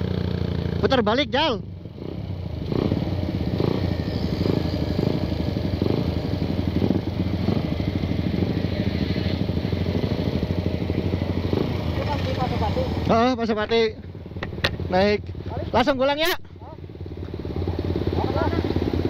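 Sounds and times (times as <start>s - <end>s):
motorcycle engine idling low: 0.0s - 19.0s.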